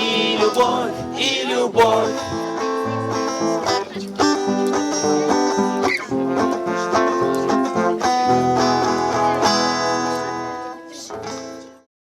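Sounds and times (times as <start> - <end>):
acoustic guitar strumming: 0.0 - 11.8.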